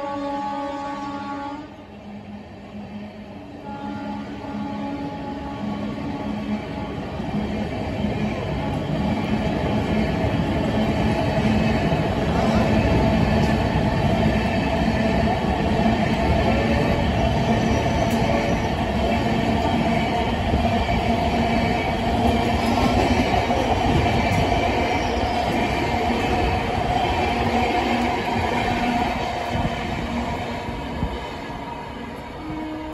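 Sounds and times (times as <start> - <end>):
train wheels rumbling on rail: 0.0 - 32.9
train whine: 0.0 - 32.9.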